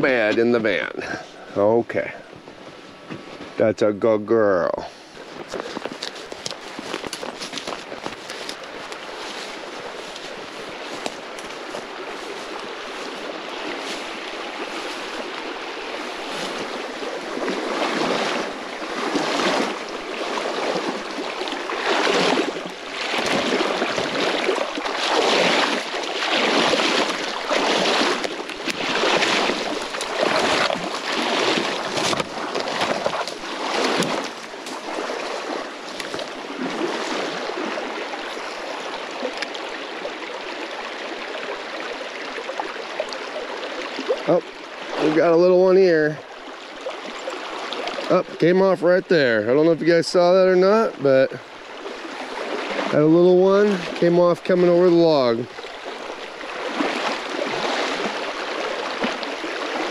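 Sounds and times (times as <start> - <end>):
stream rushing: 0.0 - 59.9
legs splashing through water: 4.9 - 48.6, 50.6 - 59.9.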